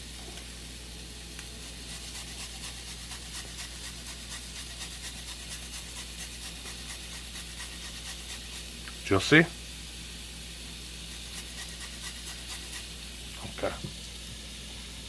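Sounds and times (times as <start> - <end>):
low electrical hum: 0.0 - 15.0
steak sizzling on a grill: 0.7 - 15.0.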